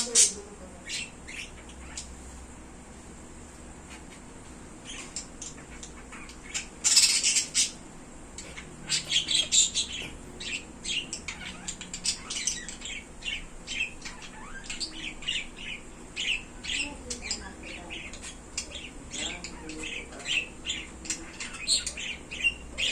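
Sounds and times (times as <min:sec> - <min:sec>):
birds chirping and squawking: 0:00.0 - 0:02.7, 0:03.9 - 0:22.9.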